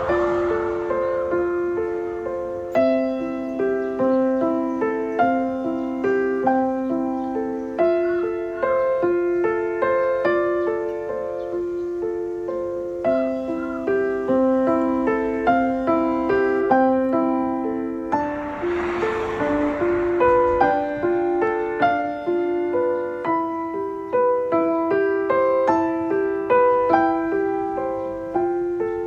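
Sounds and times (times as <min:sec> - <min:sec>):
calm solo piano music: 0:01.2 - 0:18.3, 0:20.8 - 0:29.0.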